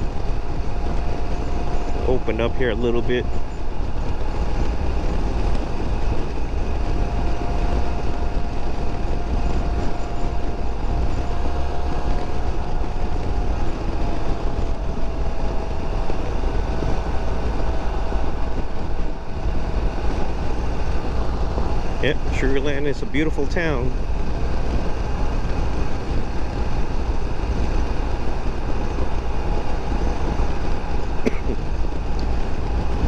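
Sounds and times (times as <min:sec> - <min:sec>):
scooter engine running: 0:00.0 - 0:33.0
steady whine: 0:00.0 - 0:33.0
wind rush on helmet microphone: 0:00.0 - 0:33.0.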